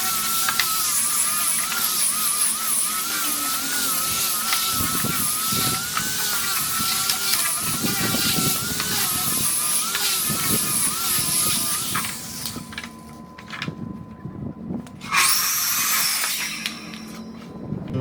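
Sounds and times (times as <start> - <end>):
angle grinder sanding wood: 0.0 - 13.6, 15.0 - 17.5.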